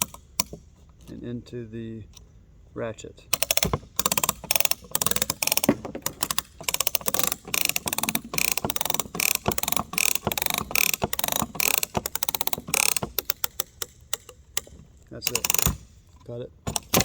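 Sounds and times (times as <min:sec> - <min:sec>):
strap tensioner ratcheting: 0:00.0 - 0:01.2, 0:03.3 - 0:17.0.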